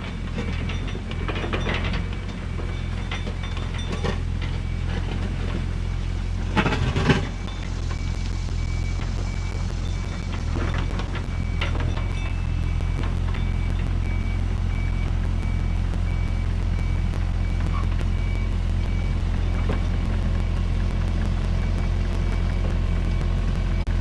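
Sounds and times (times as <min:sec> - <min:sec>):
excavator diesel engine: 0:00.0 - 0:24.0
travel alarm beeping: 0:00.4 - 0:24.0.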